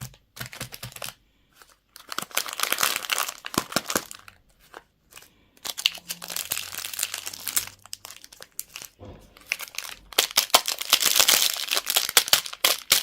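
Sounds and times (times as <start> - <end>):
plastic wrapper crumpling and tearing: 0.0 - 13.0.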